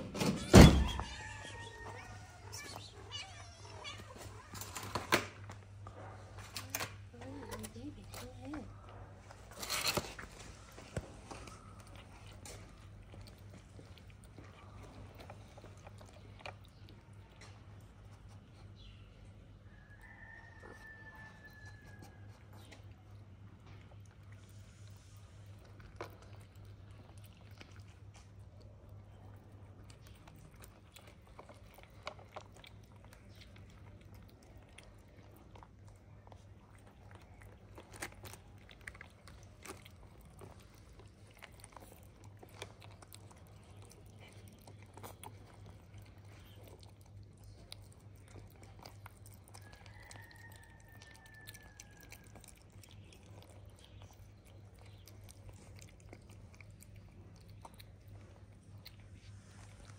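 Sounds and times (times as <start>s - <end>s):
kitten chewing food: 0.0s - 59.9s.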